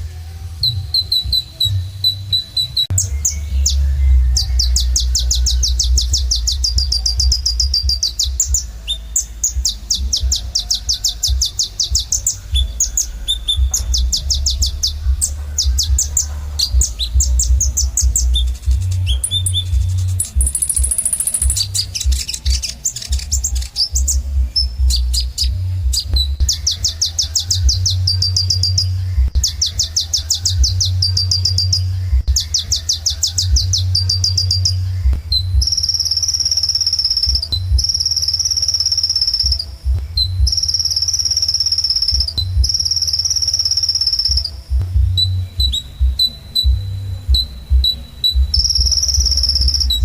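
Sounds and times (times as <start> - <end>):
long high-pitched bird notes: 0.0 - 50.0
sunbird singing trills: 0.0 - 50.0.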